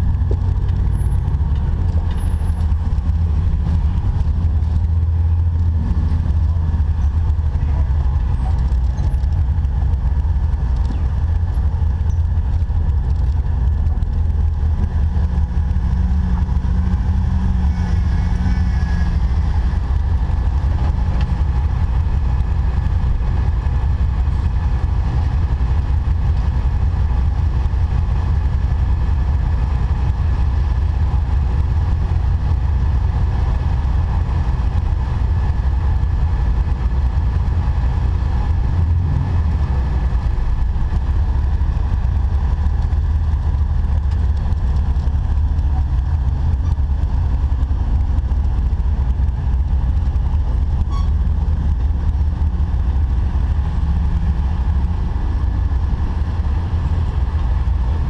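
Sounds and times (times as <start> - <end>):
car engine low drone: 0.0 - 58.0.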